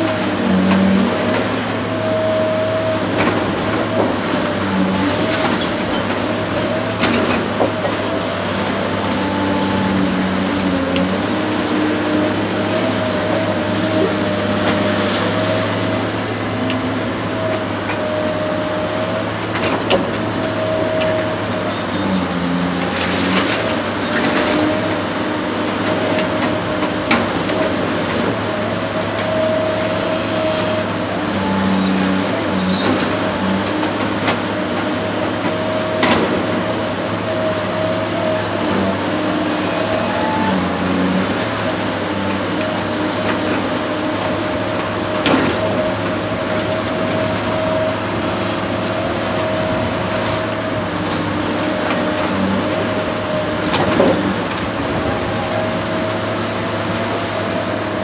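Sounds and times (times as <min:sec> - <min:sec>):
diesel engine running: 0:00.0 - 0:58.0
hydraulic whine: 0:00.0 - 0:58.0.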